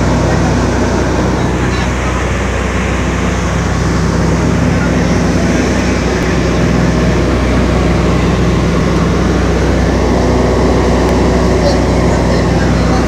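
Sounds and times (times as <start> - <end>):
airplane engine drone in cabin: 0.0 - 13.0.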